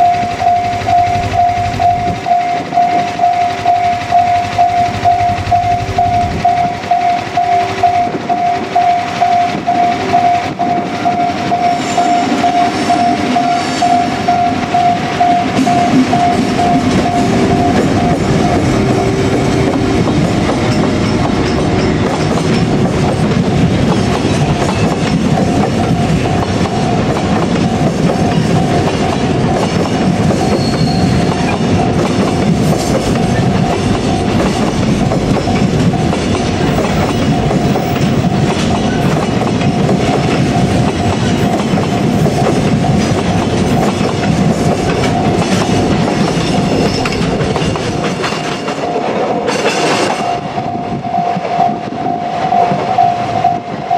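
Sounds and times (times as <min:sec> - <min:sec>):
level-crossing alarm ringing: 0:00.0 - 0:53.9
train wagons rattling over rail joints: 0:00.0 - 0:53.9.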